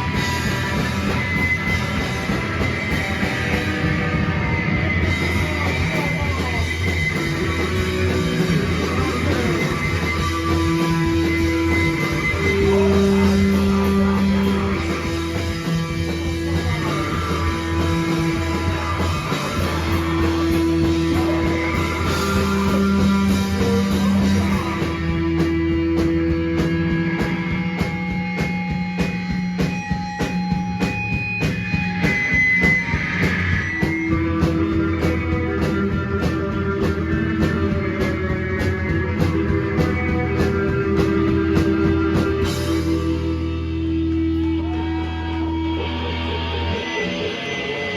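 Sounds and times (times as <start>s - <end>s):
rock band playing loud: 0.0s - 47.9s.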